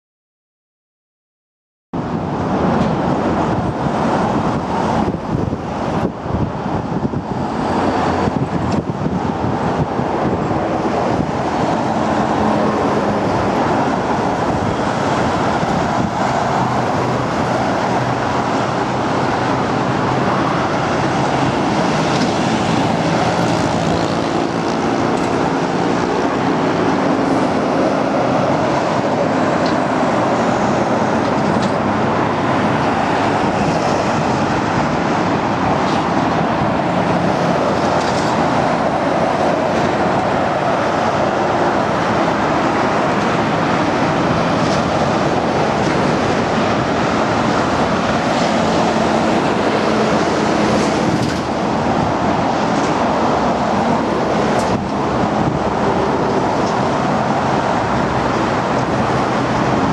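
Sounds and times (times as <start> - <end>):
heavy expressway traffic: 2.0 - 59.9
passing truck engine: 2.0 - 59.9.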